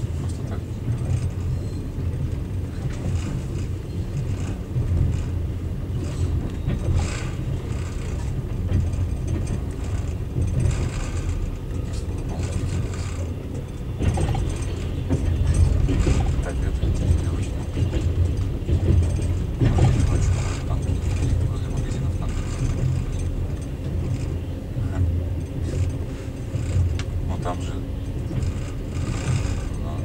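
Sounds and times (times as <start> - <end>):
carriage creaks and rattles: 0.0 - 30.0
train running gear rumble: 0.0 - 30.0.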